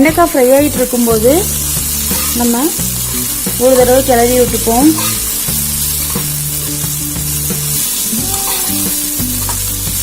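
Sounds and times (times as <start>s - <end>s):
okra sizzling in a pan: 0.0s - 10.0s.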